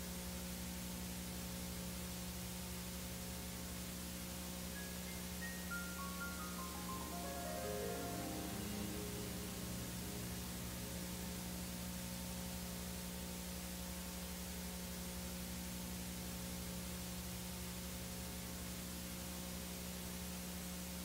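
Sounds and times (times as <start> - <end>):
tape hiss: 0.0 - 21.0.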